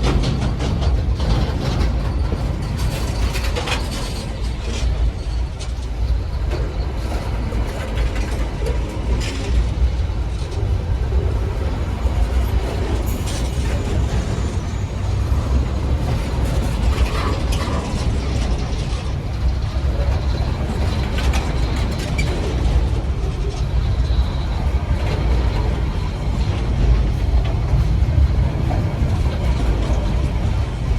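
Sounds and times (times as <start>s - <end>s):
deep locomotive engine rumble: 0.0s - 30.9s
train clanks and rattles: 0.0s - 30.9s.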